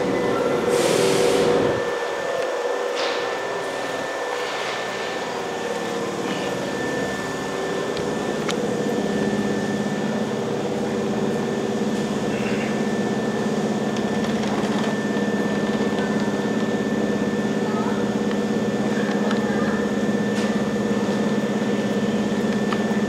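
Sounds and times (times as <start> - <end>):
electric train equipment hum: 0.0 - 23.0.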